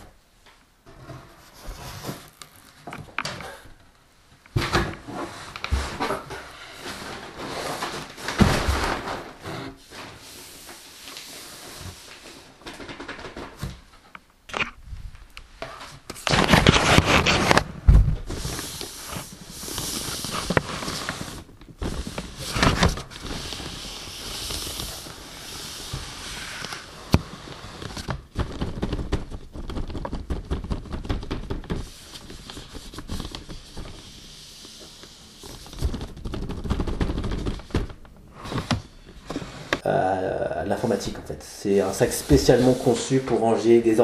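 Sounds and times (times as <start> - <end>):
paper and plastic rustling: 4.6 - 39.8, 40.6 - 44.0.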